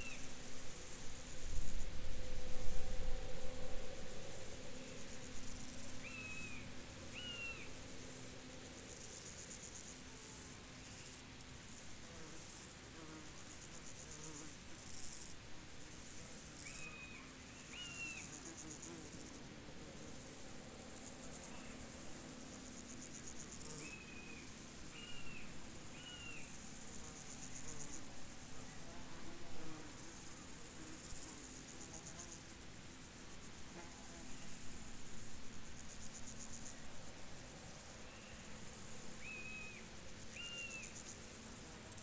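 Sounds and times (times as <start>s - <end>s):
insects trilling: 0.0s - 10.1s, 16.0s - 19.4s, 20.0s - 42.0s
steady low hiss: 0.0s - 42.0s.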